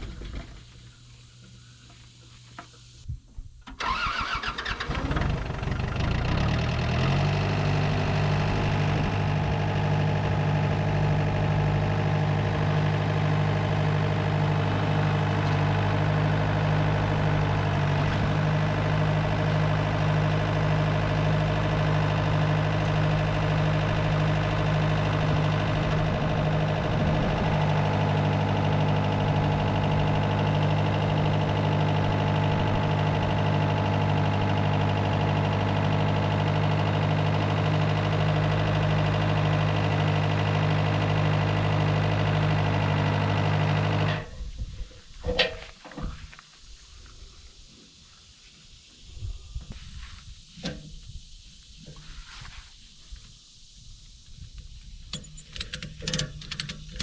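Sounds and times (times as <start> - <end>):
tractor engine starting and idling: 3.6 - 46.4, 49.6 - 53.4, 54.2 - 57.0.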